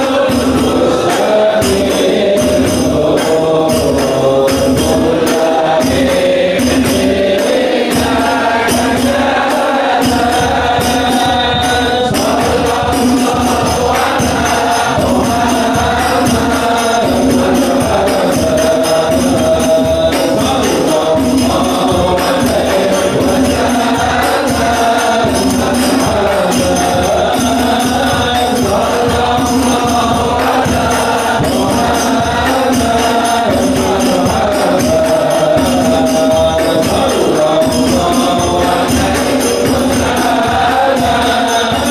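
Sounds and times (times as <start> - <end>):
frame drums beating: 0.0 - 41.9
men chanting in unison: 0.0 - 41.9.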